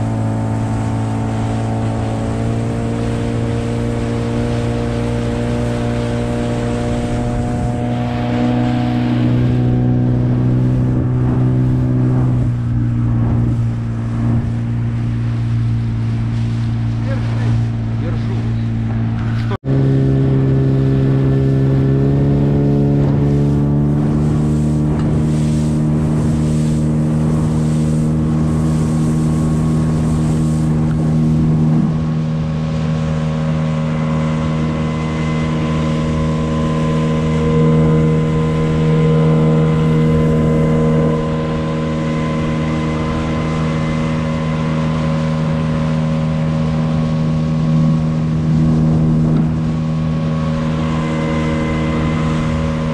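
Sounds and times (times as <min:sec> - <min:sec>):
outboard motor running: 0:00.0 - 0:52.9
rushing water: 0:00.0 - 0:52.9
wind: 0:00.0 - 0:52.9.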